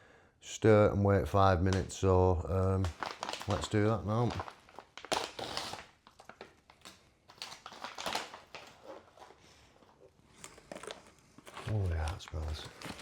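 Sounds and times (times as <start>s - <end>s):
meal pouch crinkling: 1.6s - 13.0s.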